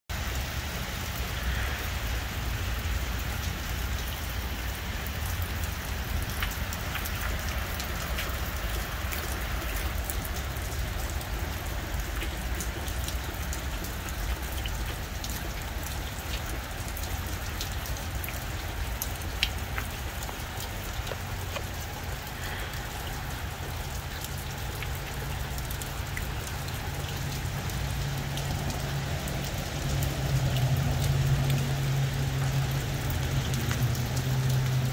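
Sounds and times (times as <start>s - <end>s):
raindrops tapping: 0.1s - 34.9s
steady rain: 0.1s - 34.9s.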